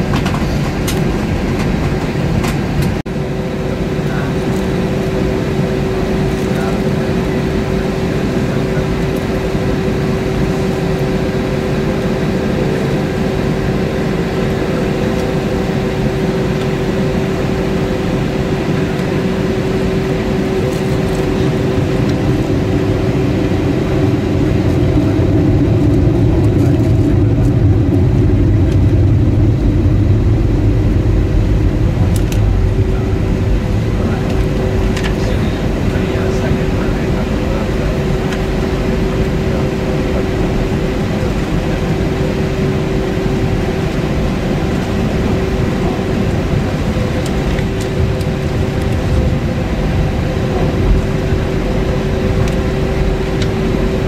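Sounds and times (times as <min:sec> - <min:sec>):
aircraft cabin hum: 0:00.0 - 0:54.0
low rumble of taxiing aircraft: 0:00.0 - 0:54.0.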